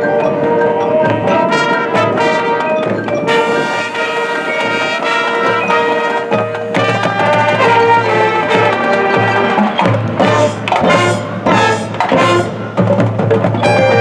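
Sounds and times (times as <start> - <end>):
drums and percussion rhythm: 0.0 - 14.0
brass chords: 1.0 - 14.0.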